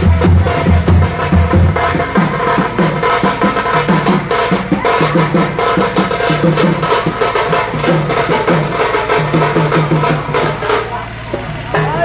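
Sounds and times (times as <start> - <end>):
drums beating fast rhythm: 0.0 - 12.0.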